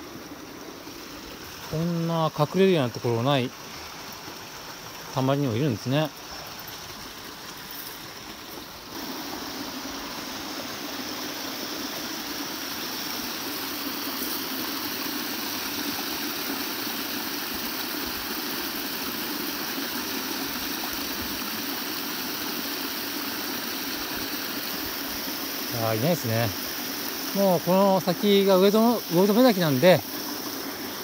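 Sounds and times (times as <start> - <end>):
stream splashing over rocks: 0.0 - 31.0.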